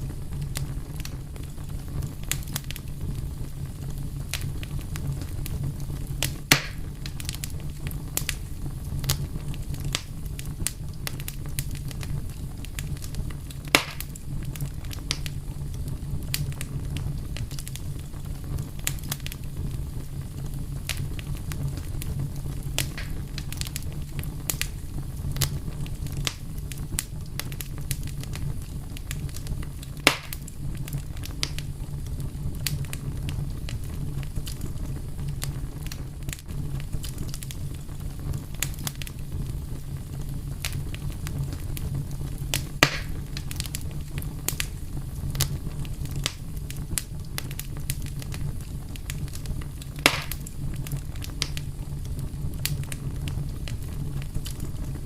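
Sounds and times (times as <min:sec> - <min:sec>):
fire pops: 0:00.0 - 0:55.0
wood fire crackling: 0:00.0 - 0:55.0.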